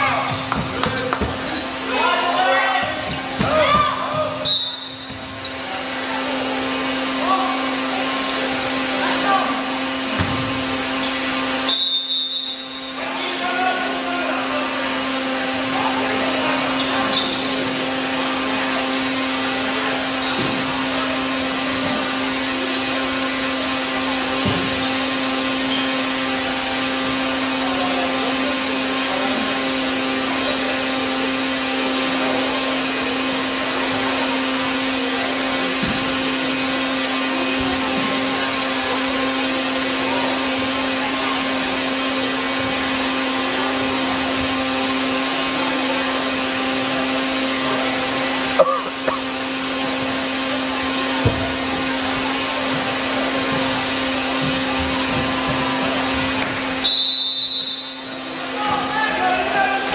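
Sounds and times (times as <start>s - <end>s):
machine drone: 0.0s - 59.9s.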